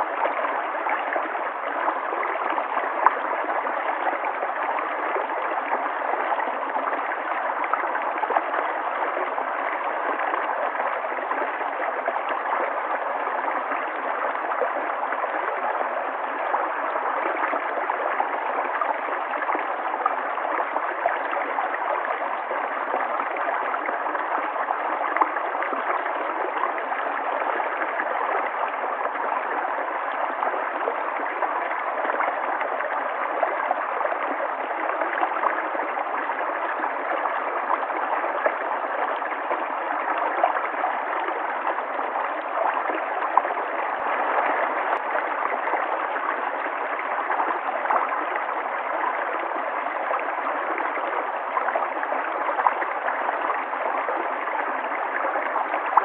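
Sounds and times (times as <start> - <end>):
river gurgling over stones: 0.0 - 56.0.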